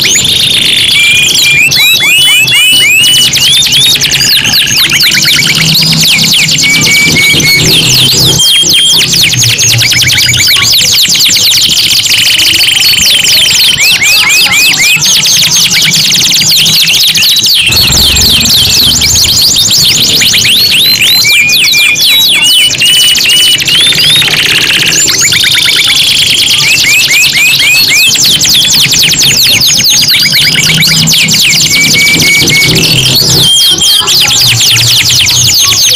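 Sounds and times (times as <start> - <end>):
canaries singing: 0.0 - 35.9.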